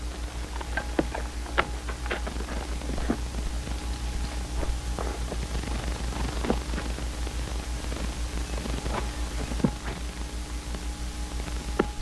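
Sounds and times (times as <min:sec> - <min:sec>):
clicks and crackles: 0:00.0 - 0:12.0
film soundtrack hiss: 0:00.0 - 0:12.0
low pulsing hum: 0:00.0 - 0:12.0.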